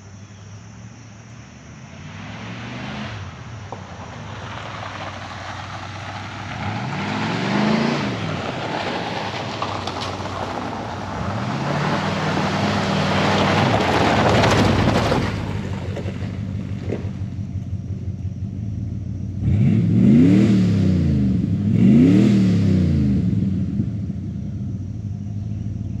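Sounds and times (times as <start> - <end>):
pickup engine idling and revving: 0.7 - 26.0.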